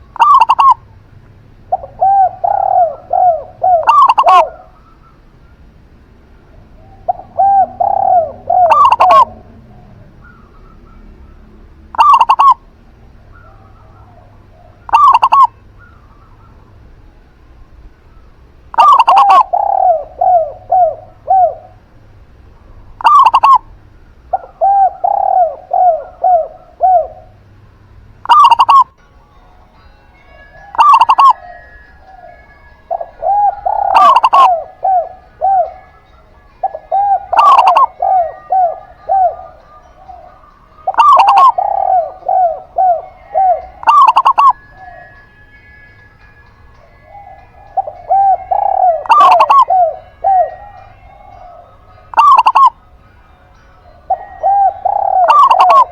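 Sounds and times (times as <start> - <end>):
dove cooing: 0.0 - 1.0, 1.6 - 5.7, 6.4 - 16.8, 18.1 - 22.0, 22.6 - 23.7, 24.3 - 27.5, 28.2 - 29.0, 30.2 - 55.9.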